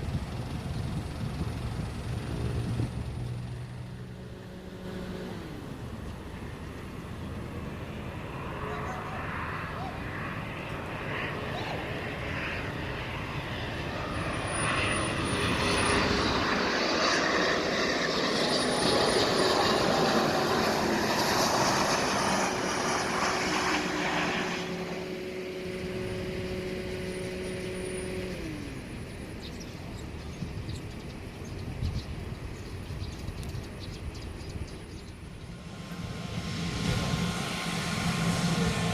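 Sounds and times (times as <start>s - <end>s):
jet engines passing by: 0.0s - 38.9s.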